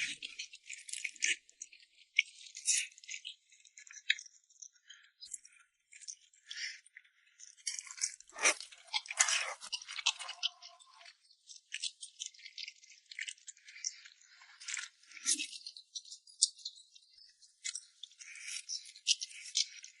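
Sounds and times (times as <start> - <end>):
eating with crisp crackles: 0.0 - 20.0.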